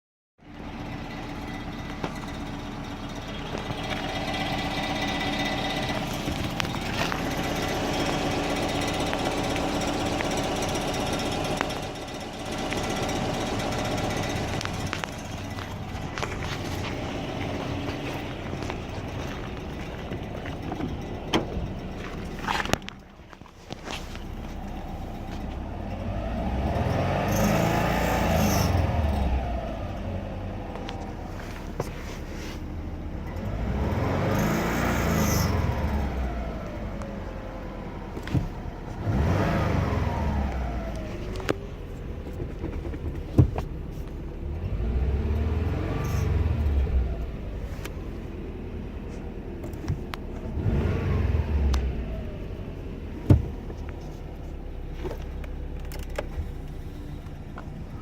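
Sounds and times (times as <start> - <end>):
car engine revving: 2.0 - 23.0, 23.7 - 58.0.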